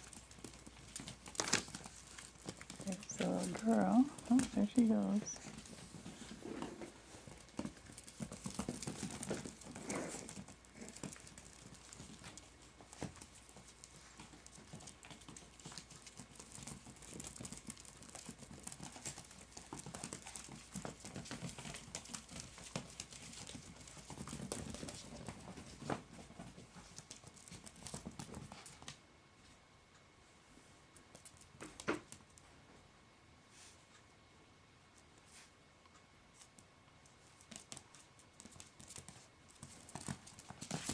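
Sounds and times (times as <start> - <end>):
puppy paws pattering: 0.0 - 29.6, 30.6 - 32.6, 35.2 - 40.9.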